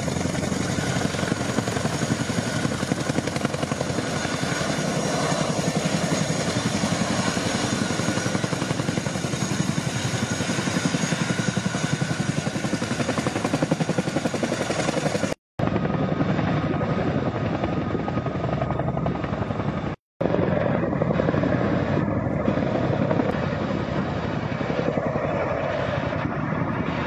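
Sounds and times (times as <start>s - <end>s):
helicopter rotor chop: 0.0s - 27.0s.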